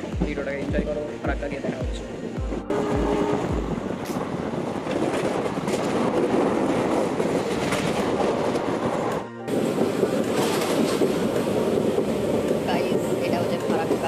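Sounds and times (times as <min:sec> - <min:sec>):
train wheels on track: 0:00.0 - 0:14.0.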